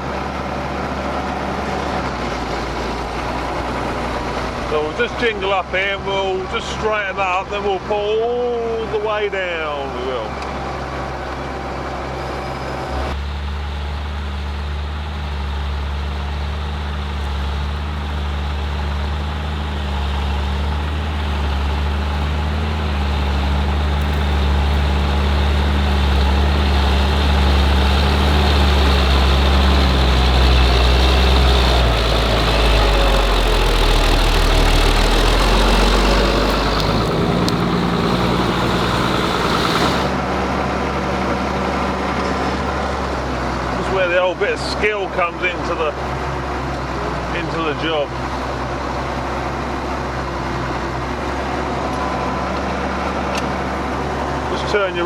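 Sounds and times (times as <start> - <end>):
tractor diesel engine drone: 0.0 - 55.0.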